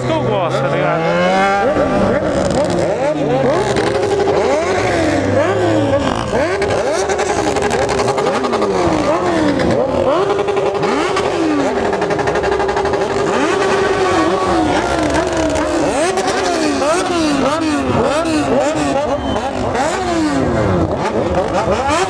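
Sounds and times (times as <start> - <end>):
steady engine note: 0.0 - 21.0
motorcycle engines revving: 0.0 - 22.0.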